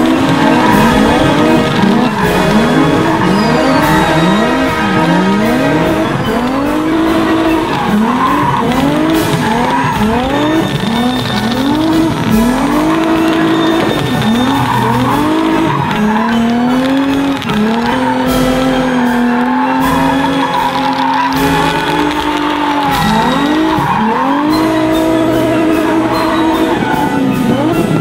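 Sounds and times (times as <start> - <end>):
fireworks crackling: 0.0 - 25.5
car engine revving: 0.0 - 28.0.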